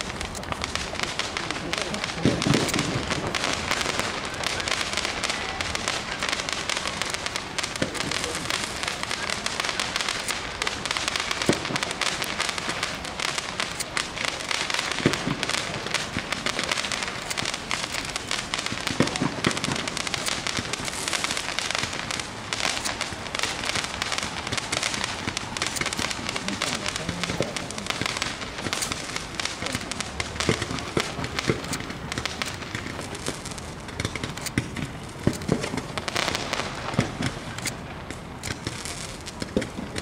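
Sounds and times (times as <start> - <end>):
fireworks bangs: 0.0 - 40.0
fireworks crackling: 0.0 - 40.0.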